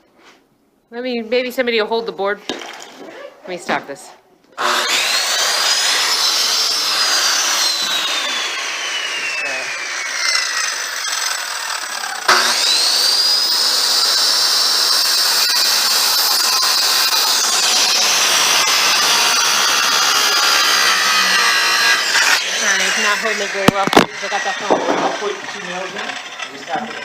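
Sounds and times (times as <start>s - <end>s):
power tool motor whine: 4.6s - 27.0s.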